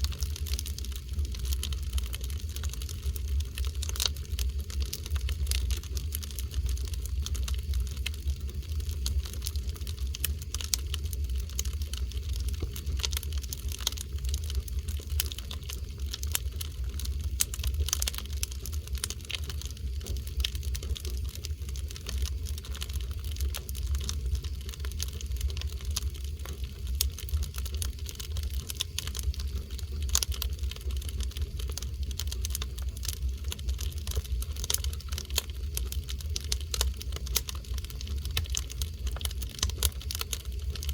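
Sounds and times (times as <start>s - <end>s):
firewood crackling and popping: 0.0s - 40.9s
low fire rumble: 0.0s - 40.9s.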